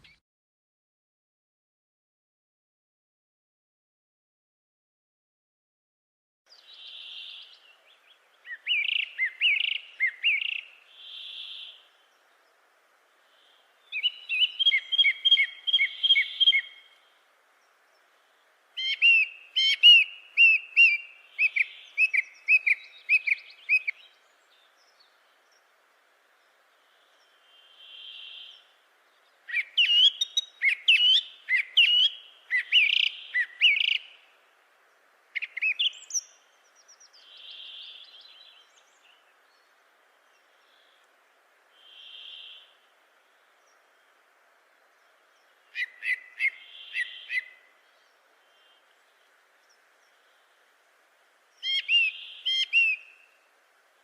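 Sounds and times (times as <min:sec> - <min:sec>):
songbird singing: 0:06.5 - 0:54.0.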